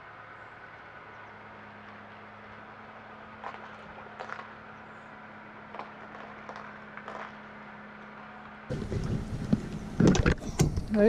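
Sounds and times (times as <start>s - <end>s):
small boat motor humming: 0.0s - 11.0s.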